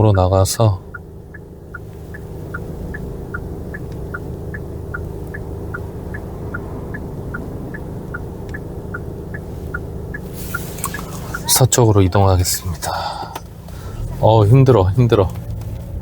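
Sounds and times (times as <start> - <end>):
engine and road rumble: 0.0 - 16.0
turn signal ticking: 0.0 - 16.0.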